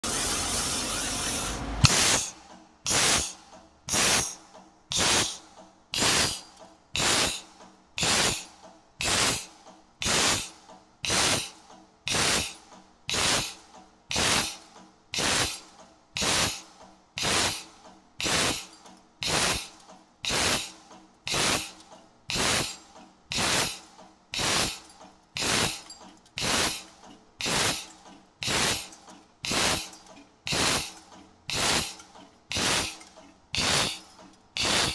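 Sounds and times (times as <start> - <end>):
sharp machine click: 0.0 - 5.4, 6.0 - 34.9
punching machine stroke hisses: 0.0 - 24.8, 25.4 - 25.8, 26.4 - 29.9, 30.5 - 33.0, 33.6 - 34.9.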